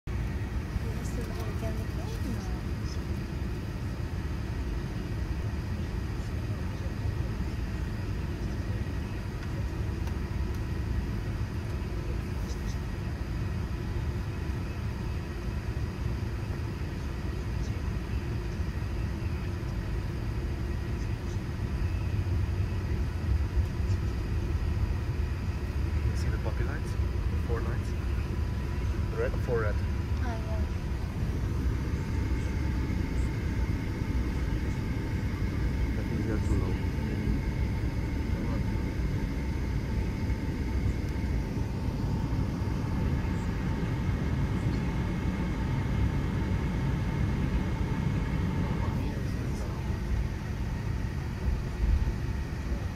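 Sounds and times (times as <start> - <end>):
aircraft cabin engine rumble: 0.0 - 52.9
faint steady whine: 0.0 - 52.9.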